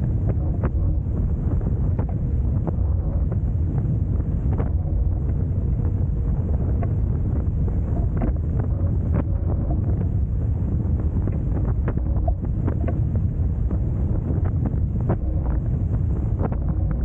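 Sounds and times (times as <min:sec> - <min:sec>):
water rushing along hulls: 0:00.0 - 0:17.0
wind buffeting microphone: 0:00.0 - 0:17.0.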